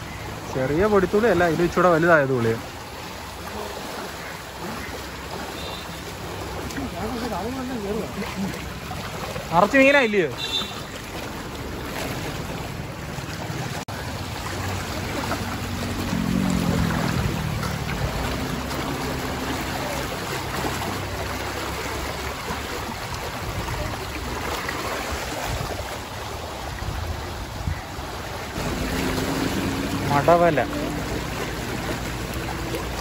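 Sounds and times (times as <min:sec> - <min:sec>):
rushing floodwater: 0:00.0 - 0:33.0.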